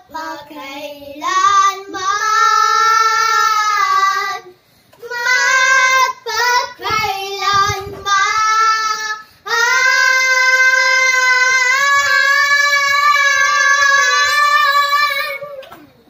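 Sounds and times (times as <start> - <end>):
girls singing long held notes: 0.0 - 15.8.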